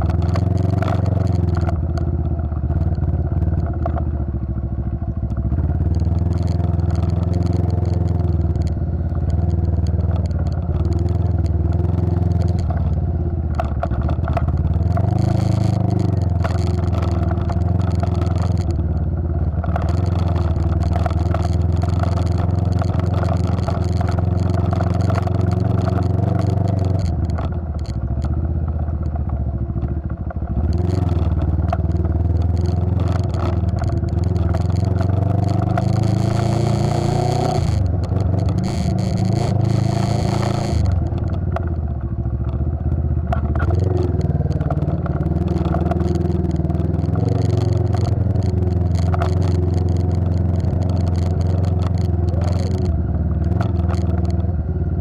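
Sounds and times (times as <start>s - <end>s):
small motorcycle engine: 0.0s - 55.0s
bike rattling over stones: 5.3s - 29.9s, 30.5s - 55.0s.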